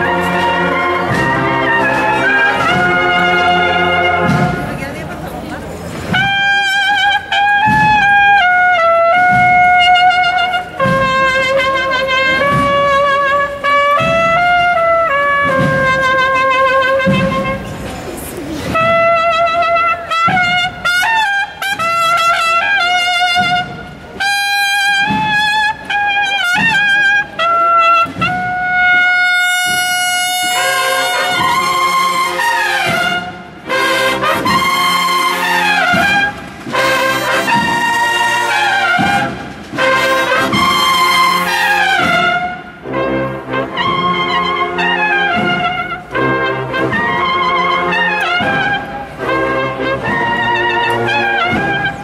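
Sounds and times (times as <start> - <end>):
solo brass melody: 0.0 - 4.8, 6.1 - 17.8, 18.7 - 52.0
brass instruments playing together: 0.0 - 52.0.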